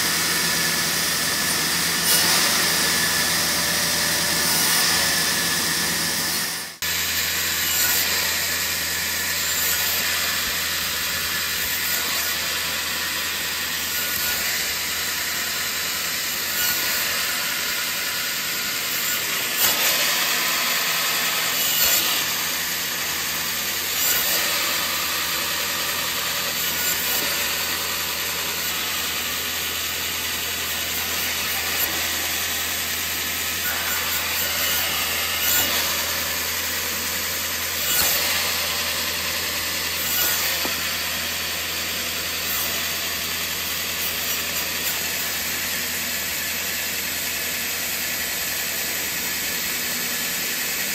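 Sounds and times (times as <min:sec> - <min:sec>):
band saw cutting wood: 0:00.0 - 0:50.9.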